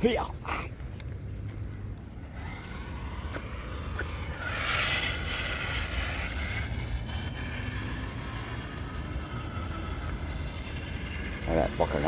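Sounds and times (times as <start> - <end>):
low rumble: 0.4 - 12.0
toy truck motor whining: 2.2 - 12.0.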